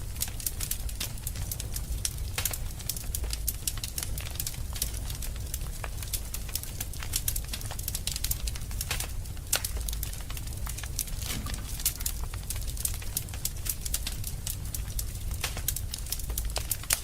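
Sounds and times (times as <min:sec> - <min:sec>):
low fire rumble: 0:00.0 - 0:17.0
wood fire crackling and popping: 0:00.0 - 0:17.0.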